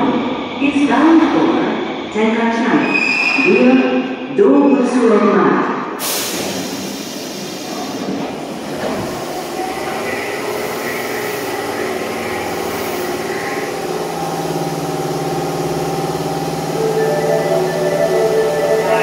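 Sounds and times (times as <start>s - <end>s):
subway train rumble: 0.0s - 19.0s.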